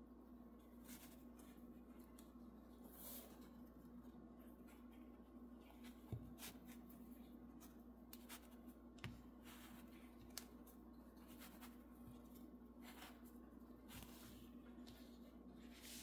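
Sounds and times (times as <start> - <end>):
faint taps and rustles of handling: 0.6 - 16.0.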